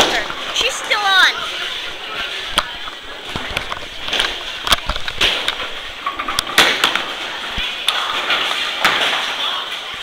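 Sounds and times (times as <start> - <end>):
background hubbub: 0.0 - 10.0
bowling balls and pins clacking: 1.5 - 10.0.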